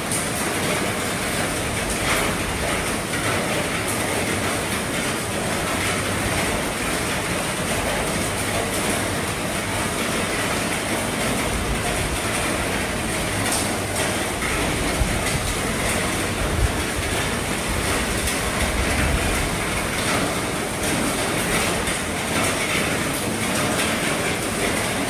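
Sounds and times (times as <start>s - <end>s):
heavy rain on a roof: 0.0s - 25.0s.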